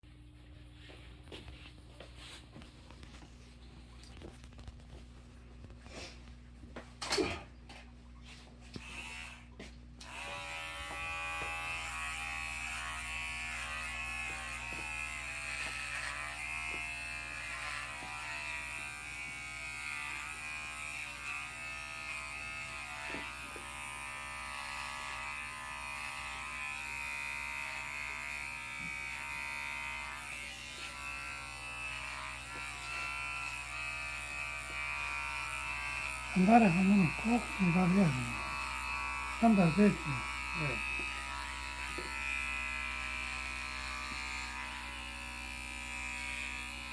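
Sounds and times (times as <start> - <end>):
electric hair clippers buzzing: 8.7 - 46.9.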